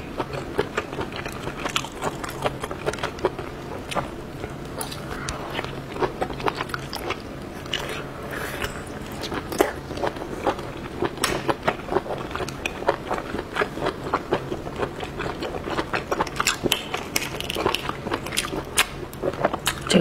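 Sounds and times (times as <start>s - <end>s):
wet chewing: 0.2s - 20.0s.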